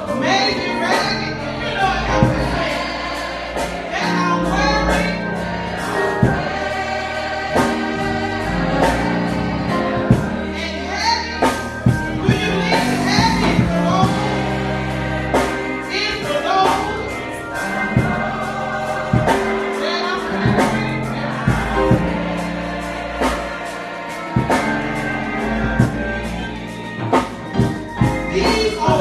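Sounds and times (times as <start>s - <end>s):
choir singing: 0.0s - 29.0s
band with drums and bass: 0.9s - 29.0s.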